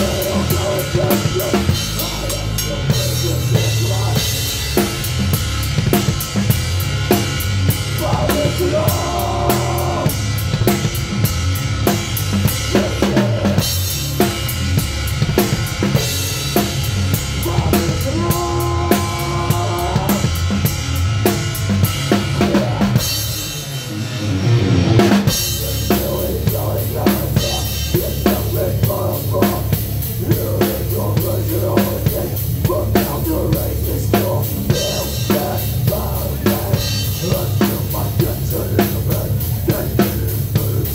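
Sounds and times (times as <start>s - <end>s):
heavy metal band playing live: 0.0s - 40.9s.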